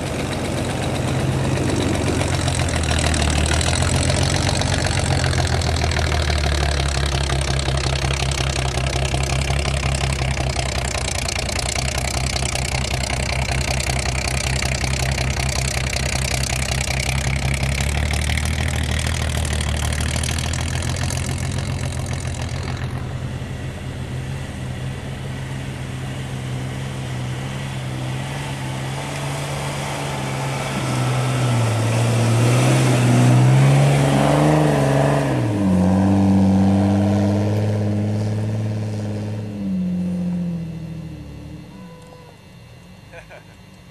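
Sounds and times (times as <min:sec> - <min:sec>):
engine revving: 0:00.0 - 0:43.8
car engine running: 0:00.0 - 0:43.9.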